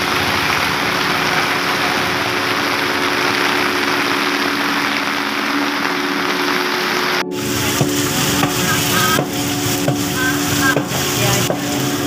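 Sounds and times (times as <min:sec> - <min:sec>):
rain: 0:00.0 - 0:12.0.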